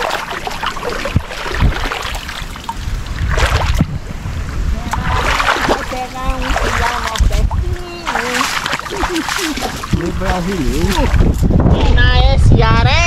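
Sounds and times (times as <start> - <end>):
people wading in muddy water: 0.0 - 12.0.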